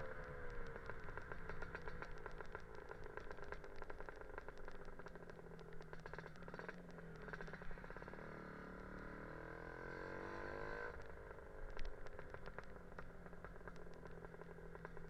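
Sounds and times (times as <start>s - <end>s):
scooter engine popping and accelerating: 0.0s - 15.0s.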